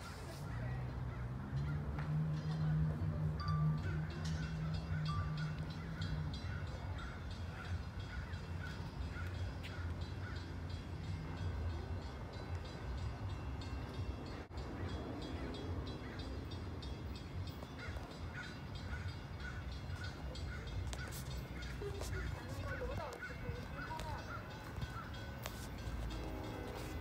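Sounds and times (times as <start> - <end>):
diesel locomotive rumble: 0.0 - 27.0
train wheels on rails: 1.4 - 27.0.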